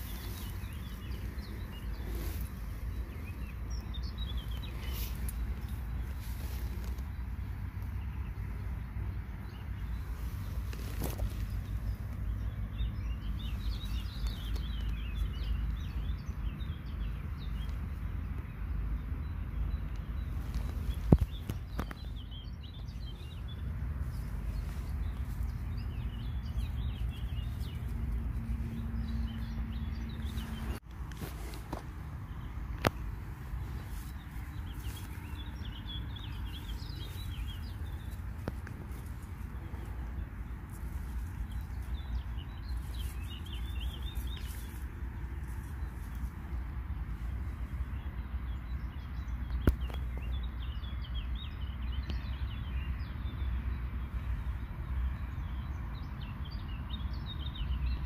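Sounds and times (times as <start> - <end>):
low outdoor rumble: 0.0 - 58.0
songbird chirping: 0.0 - 58.0.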